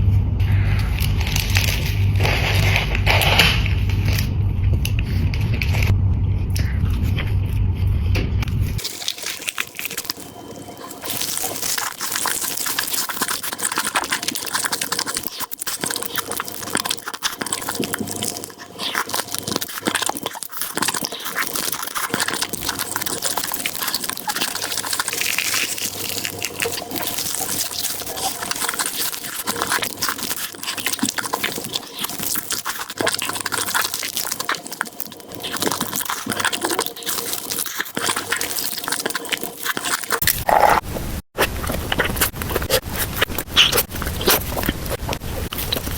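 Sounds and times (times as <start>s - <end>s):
mouth chewing food: 8.8s - 45.9s.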